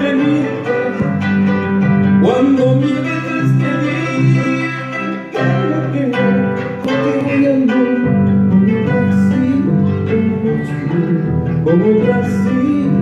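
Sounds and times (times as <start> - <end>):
harp playing plucked melody: 0.0 - 13.0.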